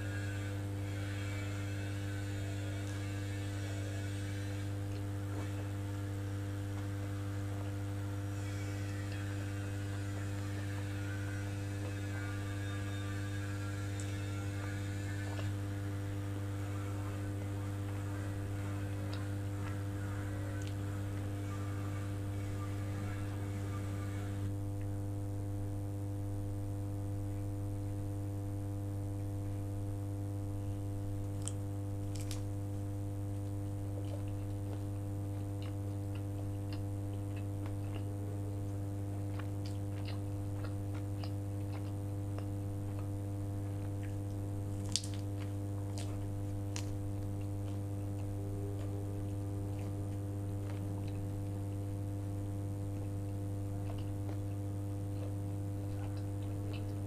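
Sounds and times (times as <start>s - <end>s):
faint eating sounds: 0.0s - 26.1s, 26.7s - 57.0s
electrical mains hum: 0.0s - 57.0s.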